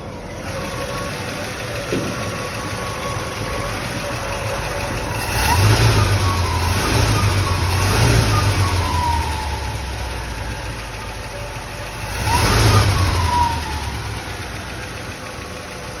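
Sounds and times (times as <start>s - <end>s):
engine revving and idling: 0.0s - 16.0s.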